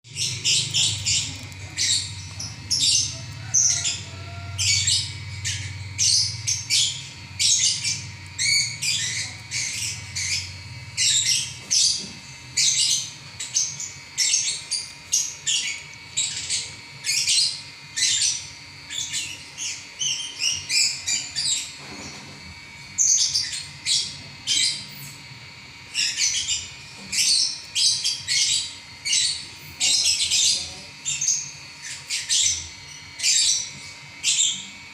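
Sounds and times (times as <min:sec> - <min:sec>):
lovebird chattering chirps: 0:00.1 - 0:21.8, 0:25.9 - 0:34.8.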